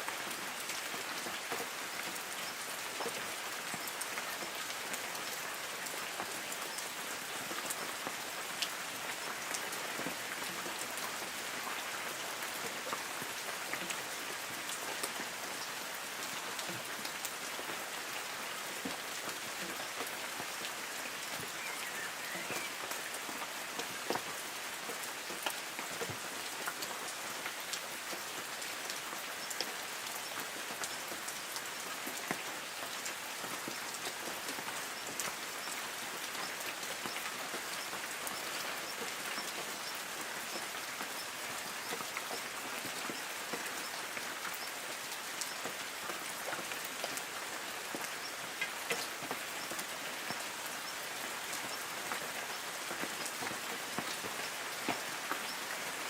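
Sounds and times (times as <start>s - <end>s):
light rain hissing on trees: 0.0s - 56.0s.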